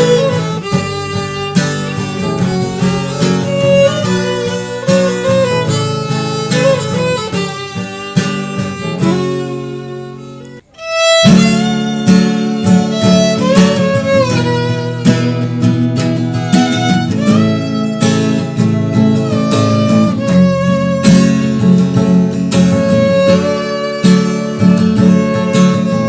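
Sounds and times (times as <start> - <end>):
instrumental music: 0.0 - 26.0.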